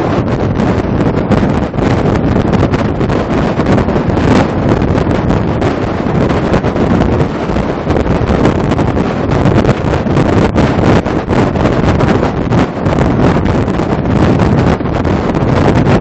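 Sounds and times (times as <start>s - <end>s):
truck rumble: 0.0s - 16.0s
wind buffeting microphone: 0.0s - 16.0s.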